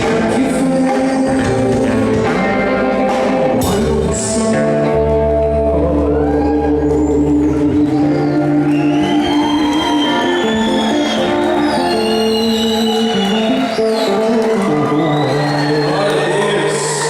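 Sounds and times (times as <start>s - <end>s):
held bass line: 0.0s - 17.0s
worship band music: 0.0s - 17.0s.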